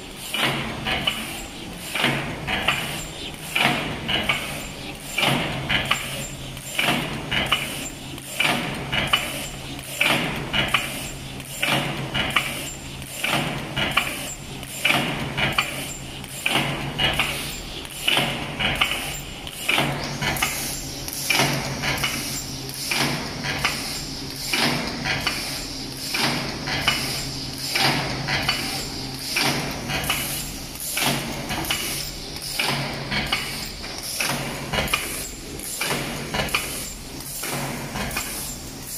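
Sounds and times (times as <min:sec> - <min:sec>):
machine clacking rhythmically: 0:00.0 - 0:38.9.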